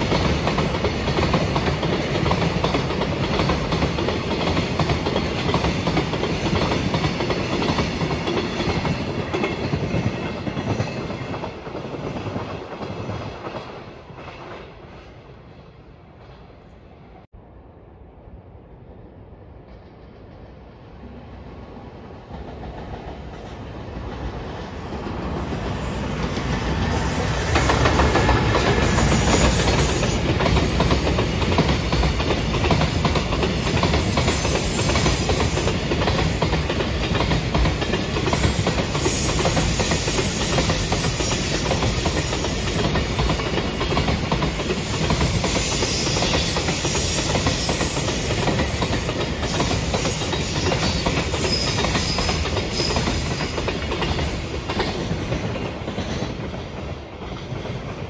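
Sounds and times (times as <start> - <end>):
freight train passing: 0.0 - 58.0.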